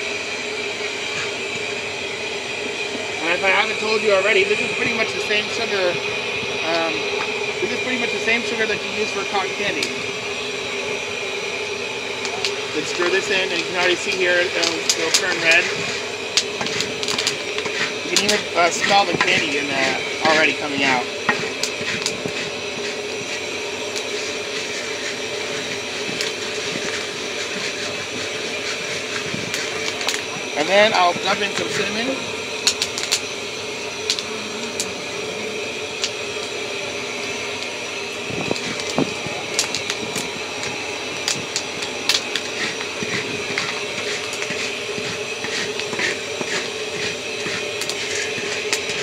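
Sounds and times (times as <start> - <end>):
steady humming drone: 0.0 - 49.0
wooden paddle stirring popcorn: 3.2 - 10.0, 12.2 - 33.2, 35.6 - 49.0.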